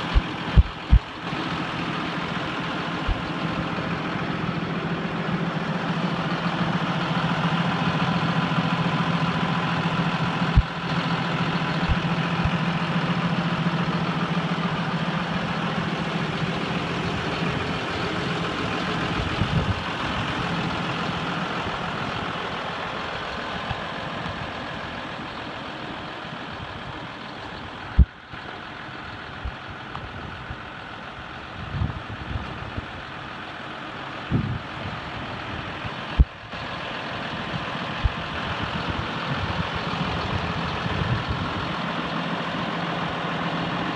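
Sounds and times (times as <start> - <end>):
tractor diesel engine idling: 0.0 - 43.9.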